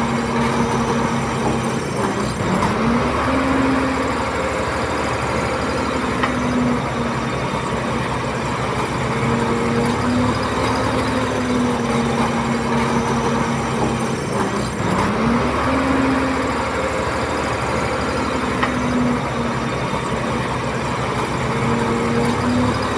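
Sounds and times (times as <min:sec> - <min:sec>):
bulldozer diesel engine: 0:00.0 - 0:22.9
engine whine: 0:00.0 - 0:22.9.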